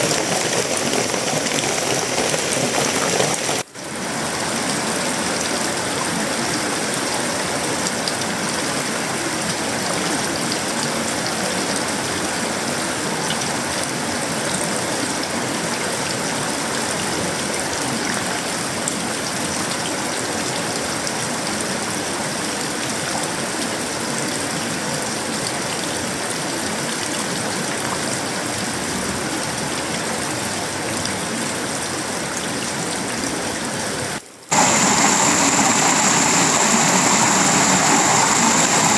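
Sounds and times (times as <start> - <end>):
downpour on metal roofing: 0.0 - 38.9.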